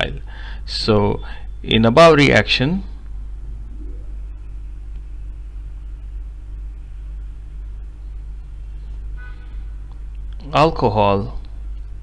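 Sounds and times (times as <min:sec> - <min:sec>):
low hum and rumble: 0:00.0 - 0:12.0.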